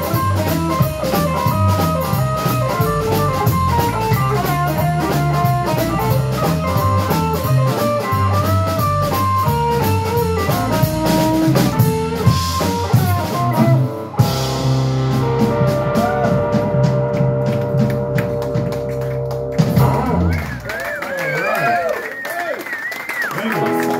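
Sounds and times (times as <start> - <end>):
electric guitar runs: 0.0 - 20.3
drums and cymbals: 0.0 - 20.6
bass guitar: 0.0 - 20.9, 23.6 - 23.9.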